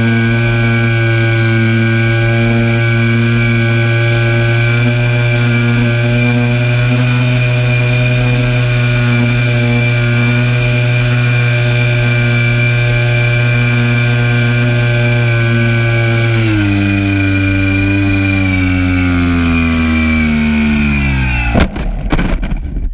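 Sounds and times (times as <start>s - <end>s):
model airplane motor and propeller: 0.0s - 22.9s.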